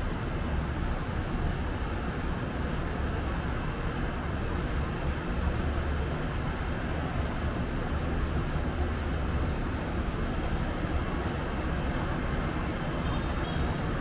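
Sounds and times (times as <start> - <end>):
city traffic roar: 0.0 - 14.0.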